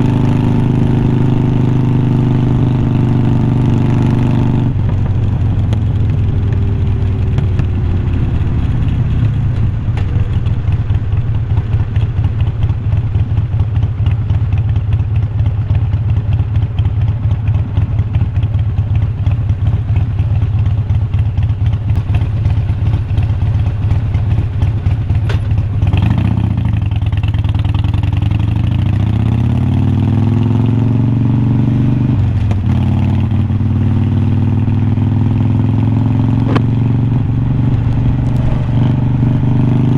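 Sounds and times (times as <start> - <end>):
motorcycle engine pulsing exhaust: 0.0 - 39.9.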